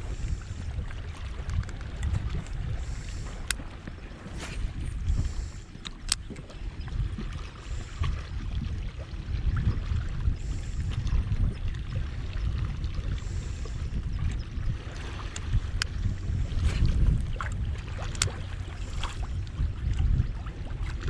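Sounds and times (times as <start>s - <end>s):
water lapping against hull: 0.0s - 21.0s
wind rumbling on microphone: 0.0s - 21.0s.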